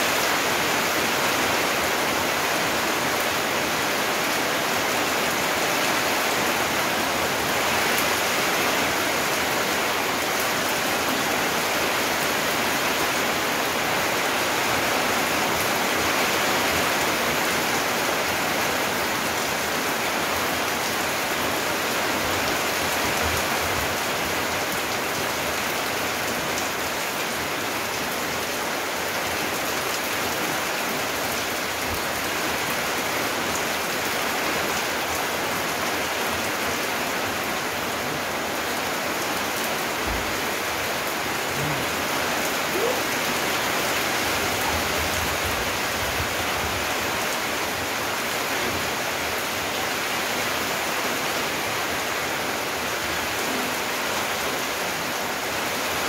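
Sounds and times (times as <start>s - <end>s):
steady rain on paving: 0.0s - 56.0s.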